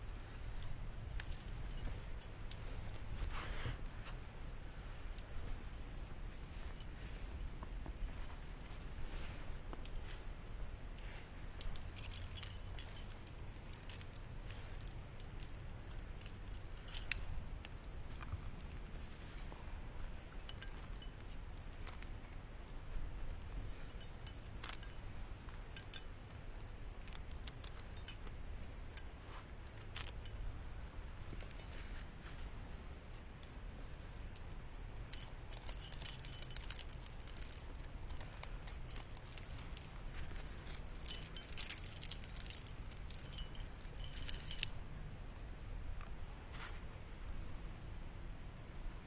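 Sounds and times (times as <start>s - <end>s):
climbing gear jangling and clinking: 0.0s - 4.2s, 5.1s - 19.5s, 20.2s - 30.5s, 31.1s - 32.5s, 33.1s - 44.9s.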